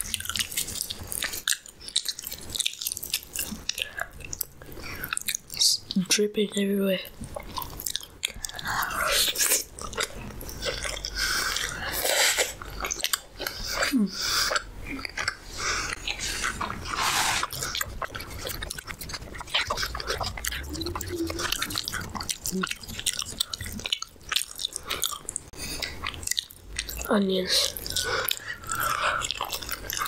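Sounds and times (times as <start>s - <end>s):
wet chewing and smacking: 0.0s - 30.0s.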